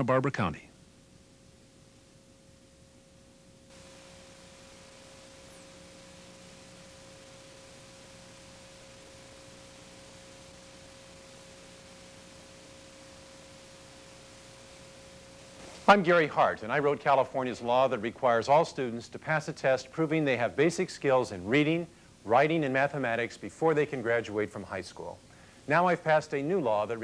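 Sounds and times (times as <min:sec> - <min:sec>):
faint steady tone: 0:00.0 - 0:27.0
tape hiss: 0:00.0 - 0:27.0
thin high whine: 0:00.0 - 0:27.0.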